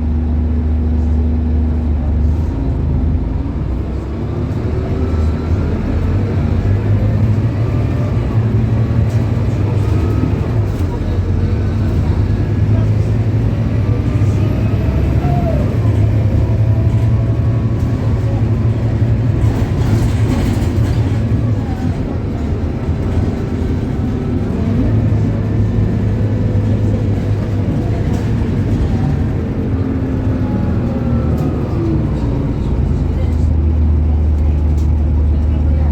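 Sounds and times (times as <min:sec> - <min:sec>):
bus diesel engine drone: 0:00.0 - 0:35.9.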